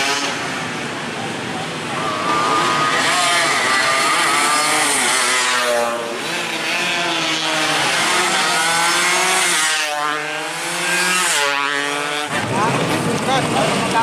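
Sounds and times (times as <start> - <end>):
race motorcycles at high revs: 0.0 - 14.0.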